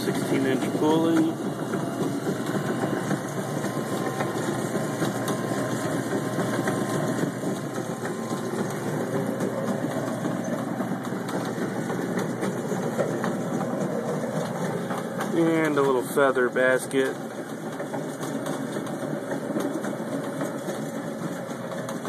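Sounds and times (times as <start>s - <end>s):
chicken plucker motor running: 0.0s - 22.0s.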